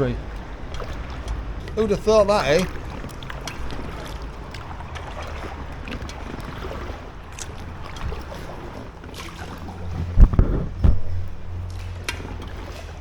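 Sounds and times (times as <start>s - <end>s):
low rumble: 0.0s - 13.0s
paddle strokes in water: 0.0s - 13.0s
water drips: 0.0s - 13.0s.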